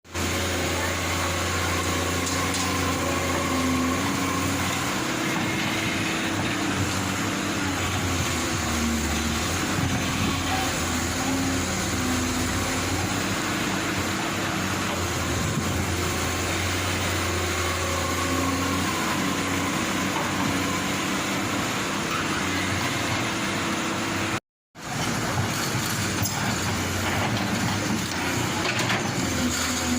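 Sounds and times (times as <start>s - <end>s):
heavy vehicle engine droning: 0.1s - 29.9s.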